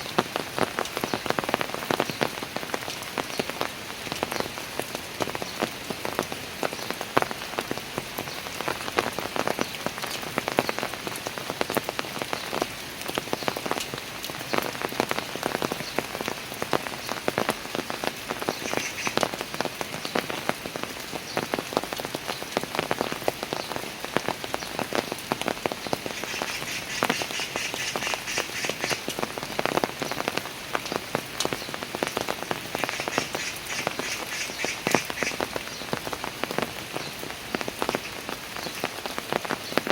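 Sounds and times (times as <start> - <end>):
rain falling on stairs: 0.0 - 39.9.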